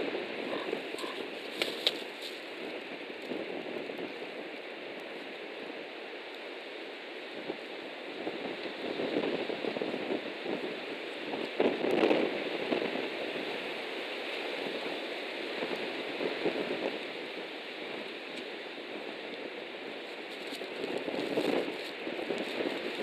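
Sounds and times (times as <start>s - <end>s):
wind gusting across microphone: 0.0s - 23.0s.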